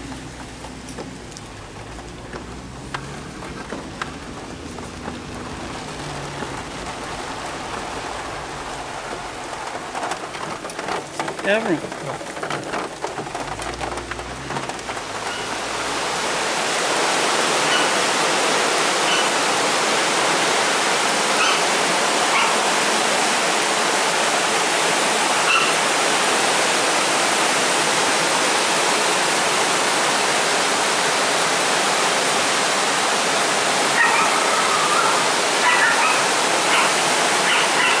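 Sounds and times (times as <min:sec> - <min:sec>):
river rushing in rapids: 0:00.0 - 0:38.0.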